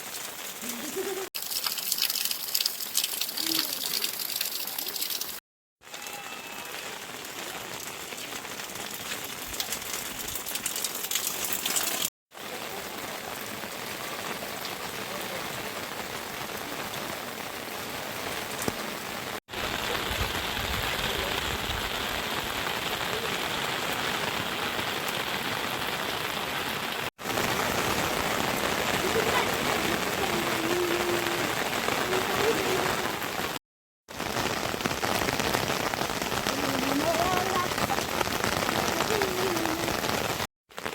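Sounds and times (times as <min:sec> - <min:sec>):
heavy rain falling: 0:00.0 - 0:40.9
raindrops ticking close by: 0:00.0 - 0:40.9.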